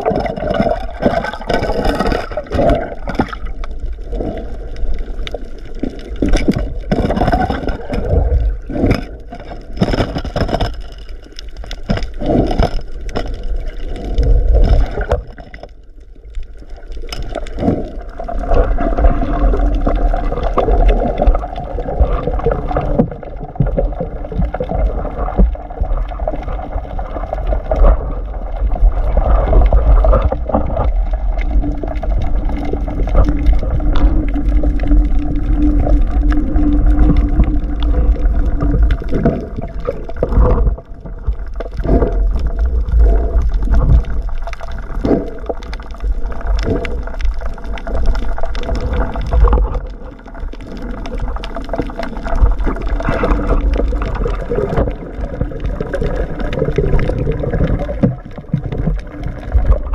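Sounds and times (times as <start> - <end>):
low rumble: 0.0 - 59.9
water rushing and gurgling: 0.0 - 59.9.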